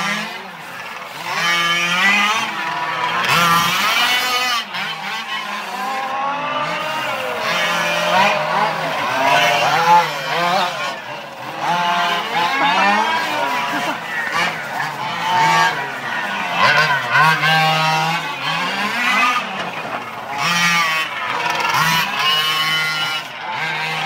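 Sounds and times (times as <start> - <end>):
small petrol engines revving: 0.0 - 24.0.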